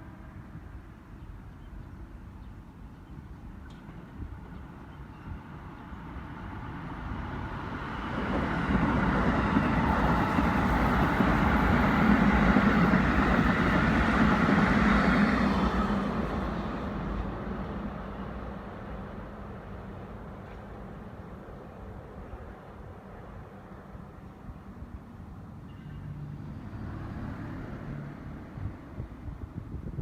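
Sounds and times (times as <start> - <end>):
electric train running past: 3.9 - 29.0.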